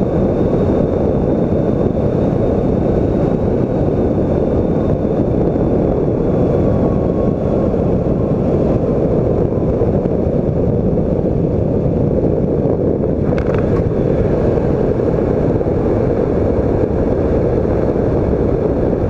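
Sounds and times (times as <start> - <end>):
propeller engine rumbling: 0.0 - 19.0
wind rush on microphone: 0.0 - 19.0.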